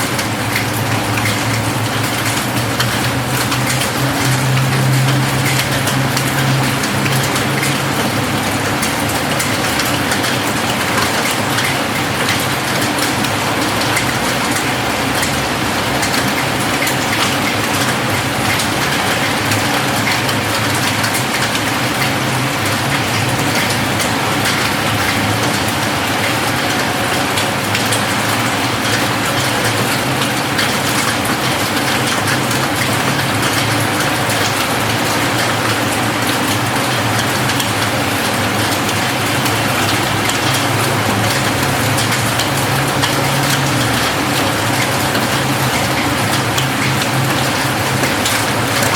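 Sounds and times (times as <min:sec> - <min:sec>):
rain on a roof: 0:00.0 - 0:48.9.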